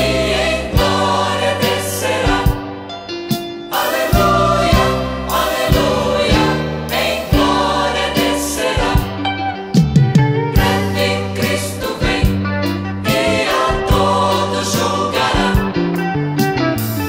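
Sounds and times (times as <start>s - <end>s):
choir singing a hymn: 0.0s - 9.7s, 10.5s - 16.1s
instrumental backing: 0.0s - 17.0s.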